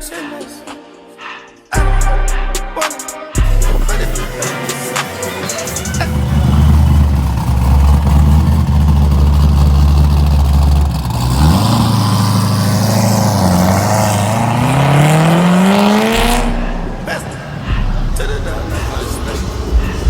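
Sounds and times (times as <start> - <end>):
car engine revving: 3.4 - 20.0.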